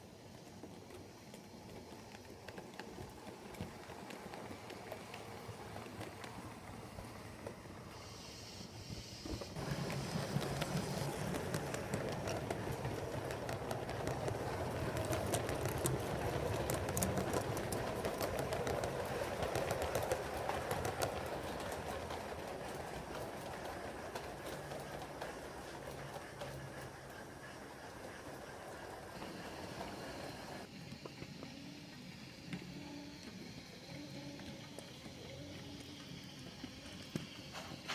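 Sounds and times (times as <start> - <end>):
model train wheels rumbling: 0.0 - 37.9.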